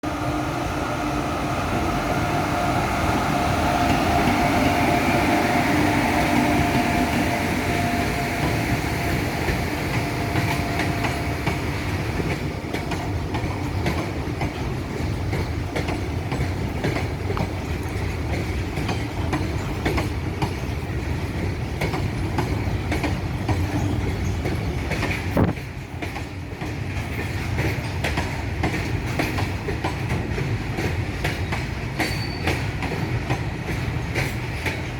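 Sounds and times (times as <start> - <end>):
train wheels clattering over joints: 3.3 - 34.9.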